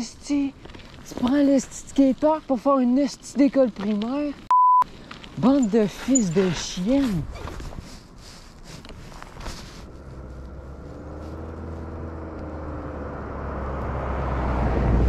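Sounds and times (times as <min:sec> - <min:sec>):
tyre noise on road: 0:00.0 - 0:15.0
vehicle engine hum: 0:00.0 - 0:15.0.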